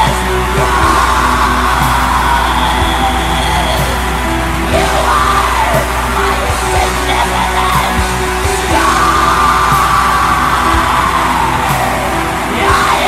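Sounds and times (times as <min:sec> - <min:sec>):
distorted metal band: 0:00.0 - 0:13.0.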